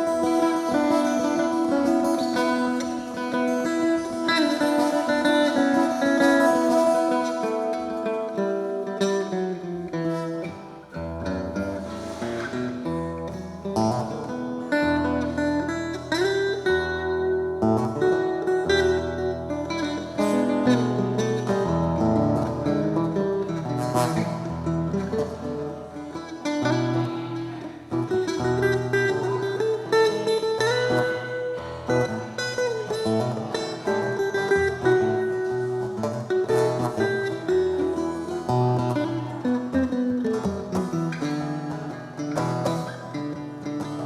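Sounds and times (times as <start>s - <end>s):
plucked guitar melody: 0.0s - 44.0s.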